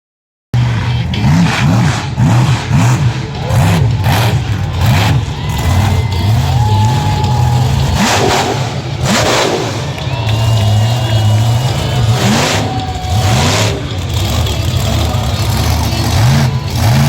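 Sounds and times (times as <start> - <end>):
truck engine revving: 0.5 - 17.0.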